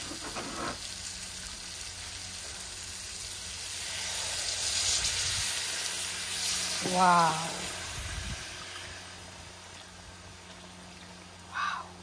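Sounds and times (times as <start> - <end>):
fish sizzling in curry in a pot: 0.0 - 11.4.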